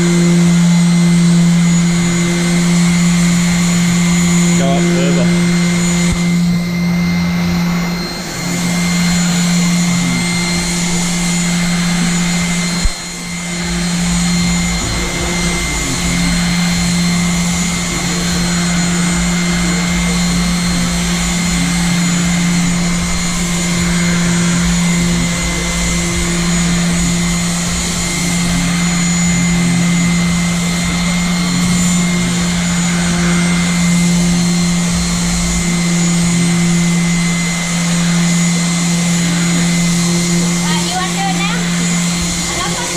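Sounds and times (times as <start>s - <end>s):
power sander on metal: 0.0s - 42.9s.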